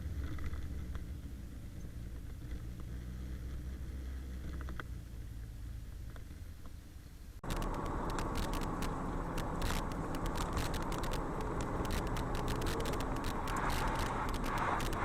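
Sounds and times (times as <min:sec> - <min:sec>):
low vehicle rumble: 0:00.0 - 0:15.0
road noise with rapid clicks: 0:00.0 - 0:15.0.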